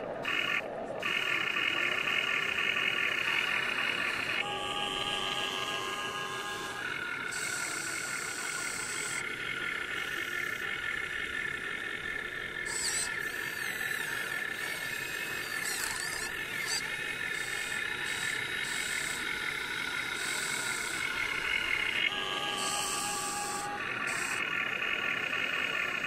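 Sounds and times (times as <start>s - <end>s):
electric gear motors whining: 0.0s - 26.0s.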